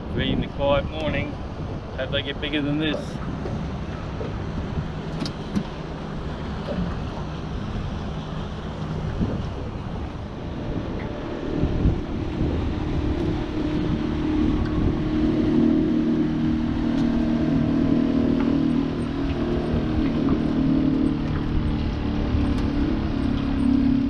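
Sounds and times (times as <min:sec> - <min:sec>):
engine droning: 0:00.0 - 0:24.0
wind buffeting microphone: 0:00.0 - 0:24.0.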